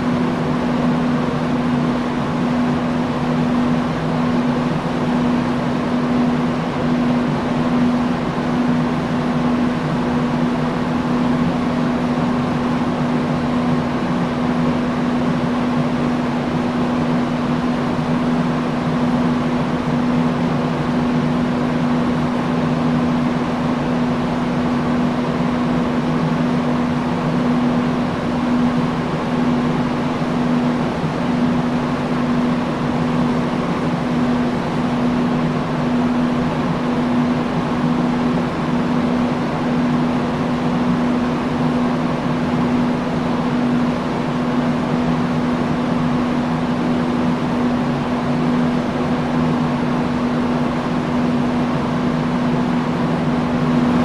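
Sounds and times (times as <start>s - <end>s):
fan motor hum: 0.0s - 54.0s
rushing air from fan: 0.0s - 54.0s.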